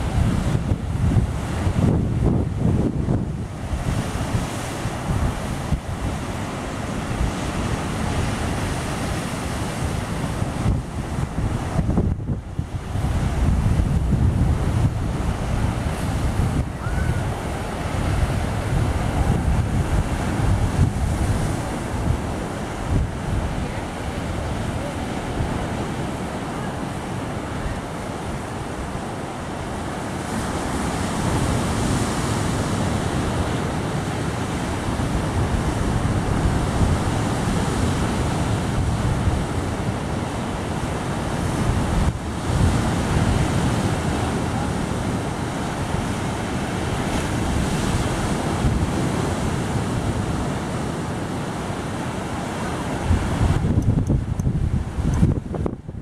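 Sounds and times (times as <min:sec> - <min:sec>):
waves breaking on rocks: 0:00.0 - 0:55.7
wind on microphone: 0:00.0 - 0:56.0.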